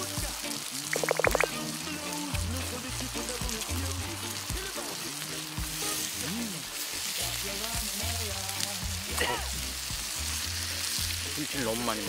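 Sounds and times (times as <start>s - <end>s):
food sizzling on hot plate: 0.0s - 12.0s.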